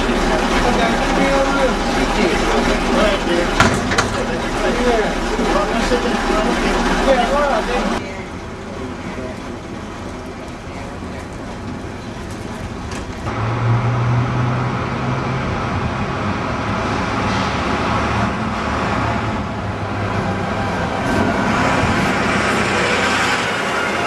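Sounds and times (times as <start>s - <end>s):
diesel bus driving past: 0.0s - 24.0s.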